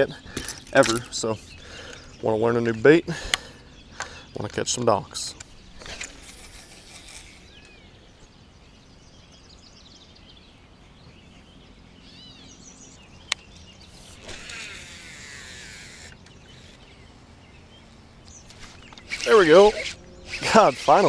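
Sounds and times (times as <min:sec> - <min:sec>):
bird calls: 0:00.0 - 0:21.0.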